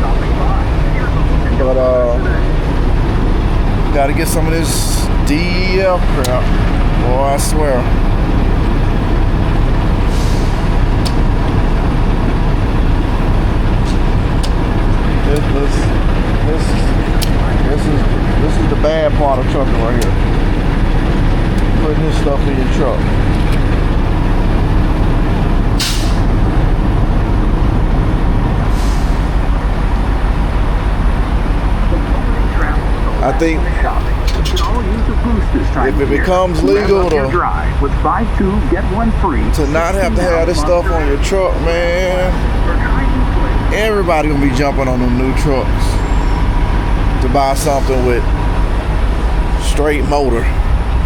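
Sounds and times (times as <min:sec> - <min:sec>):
diesel truck idling: 0:00.0 - 0:51.0.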